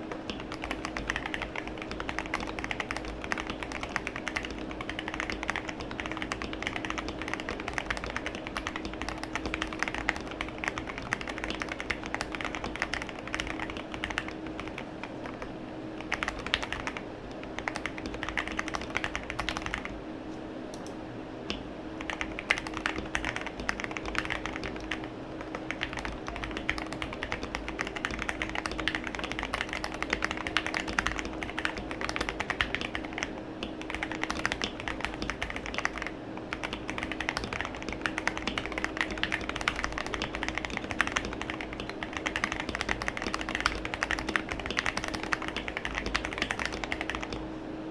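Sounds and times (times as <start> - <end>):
mechanical keyboard typing: 0.0 - 20.0, 22.0 - 47.4
faint steady hum: 0.0 - 47.9.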